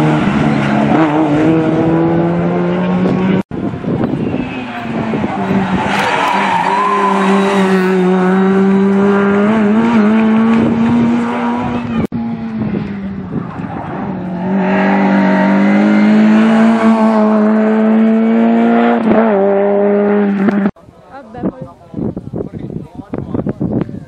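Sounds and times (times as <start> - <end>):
rally car engine at high revs: 0.0 - 20.8.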